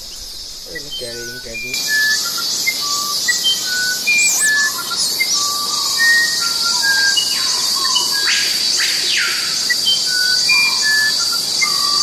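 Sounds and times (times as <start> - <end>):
high-pitched insect chorus: 0.0 - 12.0
short whistled calls: 0.0 - 12.0.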